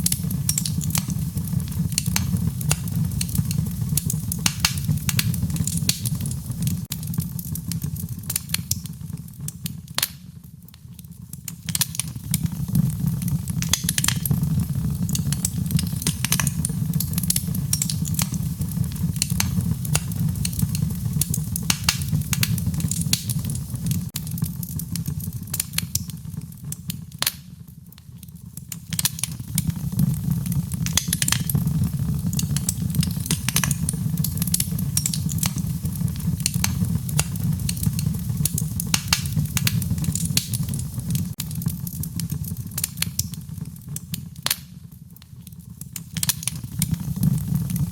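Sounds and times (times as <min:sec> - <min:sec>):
fire crackling and popping: 0:00.0 - 0:47.9
low rumble of flames: 0:00.0 - 0:47.9.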